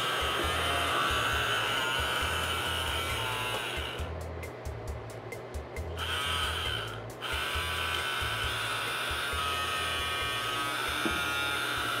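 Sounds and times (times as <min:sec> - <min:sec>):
beard trimmer buzzing: 0:00.0 - 0:04.1, 0:06.0 - 0:12.0.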